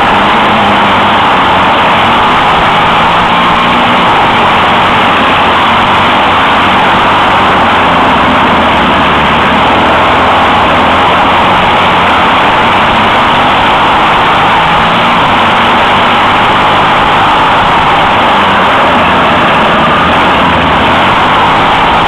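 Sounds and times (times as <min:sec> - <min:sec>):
kart engine running hard: 0:00.0 - 0:22.0
wind noise: 0:00.0 - 0:22.0.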